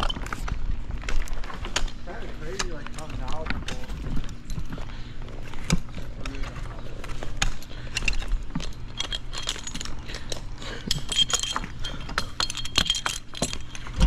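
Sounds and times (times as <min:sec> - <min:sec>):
climbing gear clinking: 0:00.0 - 0:14.0.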